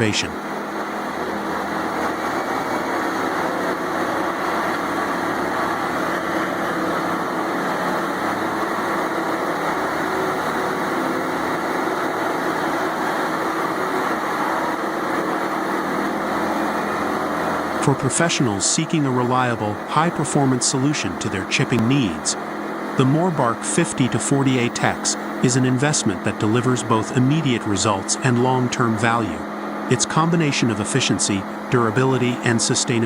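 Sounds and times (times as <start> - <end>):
chipper engine droning: 0.0 - 33.0.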